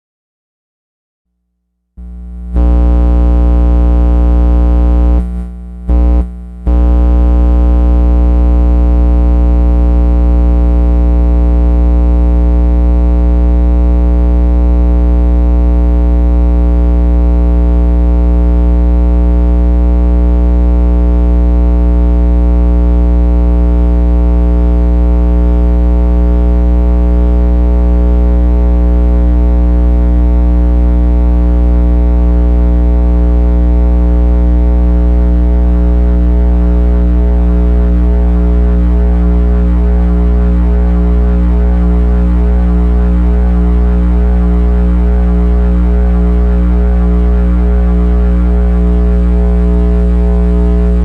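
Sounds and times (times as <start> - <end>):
electronic guitar drone: 2.0 - 51.0
heavy bass hum: 2.0 - 51.0.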